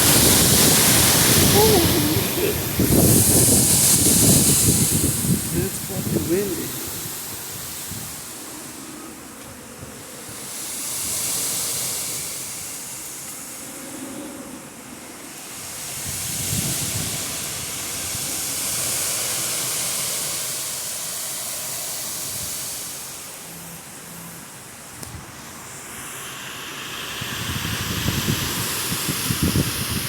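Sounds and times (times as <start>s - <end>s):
strong gusting wind: 0.0s - 19.1s, 21.7s - 30.0s.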